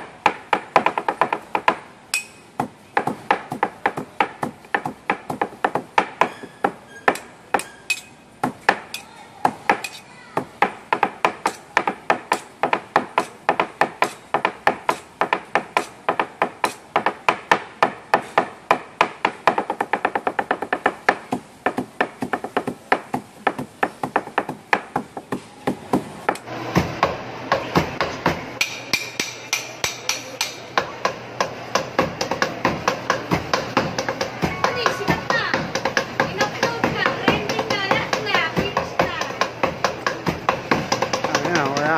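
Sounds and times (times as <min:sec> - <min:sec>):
cleavers chopping on a board: 0:00.2 - 0:01.8, 0:02.6 - 0:07.7, 0:08.4 - 0:26.4, 0:27.5 - 0:41.9.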